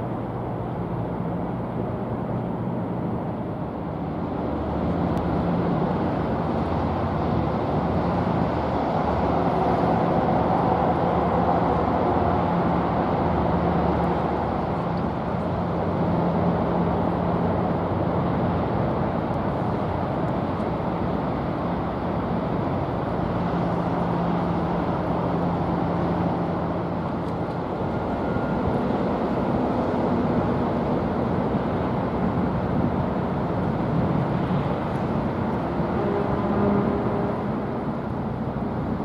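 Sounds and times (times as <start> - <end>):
ship engines rumbling: 0.0 - 39.0.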